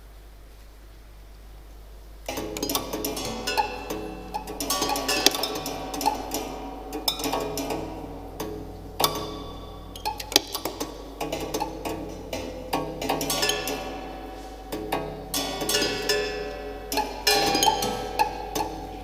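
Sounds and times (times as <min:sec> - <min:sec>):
mechanical clicks and taps: 0:02.3 - 0:18.9
ringing piano string notes: 0:02.3 - 0:19.0.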